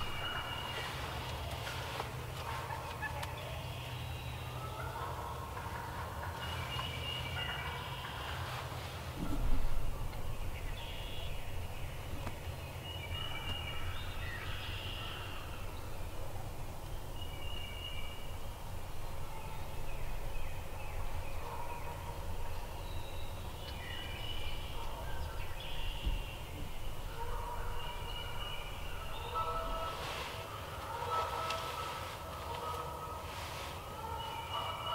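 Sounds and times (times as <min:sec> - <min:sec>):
steady low rumble: 0:00.0 - 0:04.6, 0:05.4 - 0:34.2
turkeys calling and gobbling: 0:00.0 - 0:34.9.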